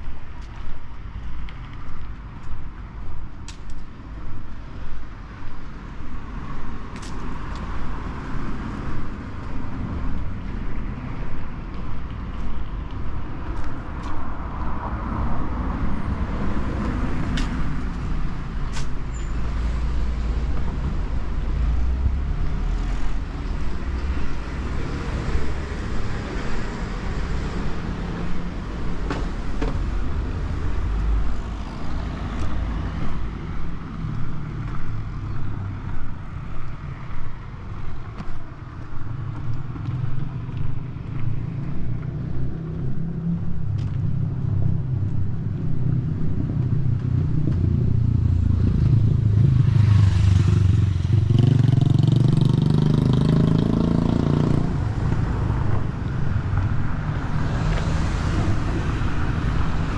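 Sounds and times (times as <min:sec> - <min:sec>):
cars passing with low rumble: 0:00.0 - 0:59.9.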